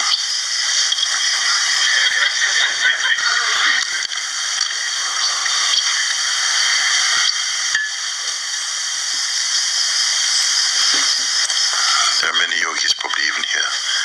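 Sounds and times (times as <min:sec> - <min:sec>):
loud background hiss: 0:00.0 - 0:14.0.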